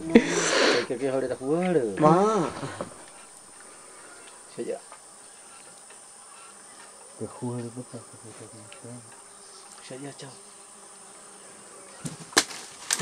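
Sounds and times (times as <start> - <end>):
flying insects buzzing: 0.0 - 13.0.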